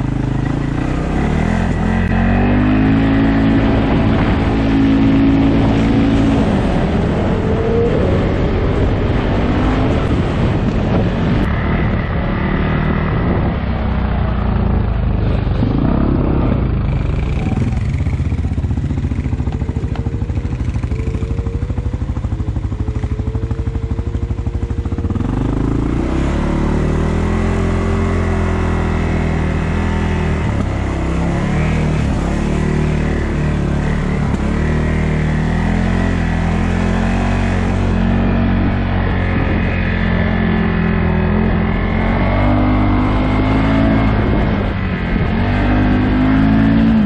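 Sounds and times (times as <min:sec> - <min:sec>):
engine revving: 0:00.0 - 0:47.0.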